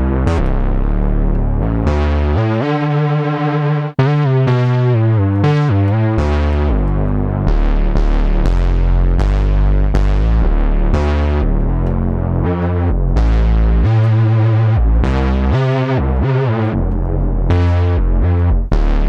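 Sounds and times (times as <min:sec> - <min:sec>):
deep synth bass notes: 0:00.0 - 0:19.0.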